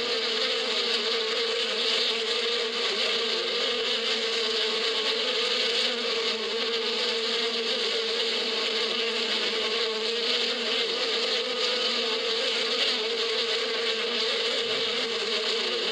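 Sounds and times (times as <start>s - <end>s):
bees buzzing: 0.0s - 15.9s.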